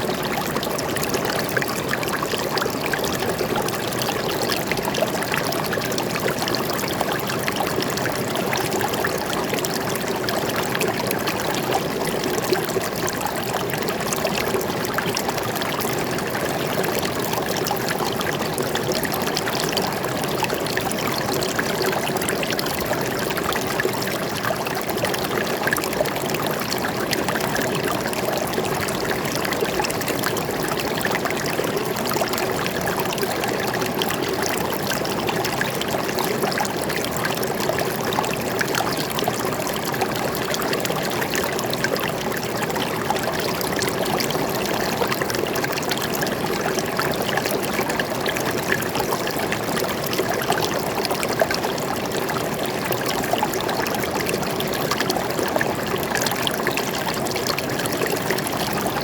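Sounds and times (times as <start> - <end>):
stream running and trickling: 0.0 - 59.0.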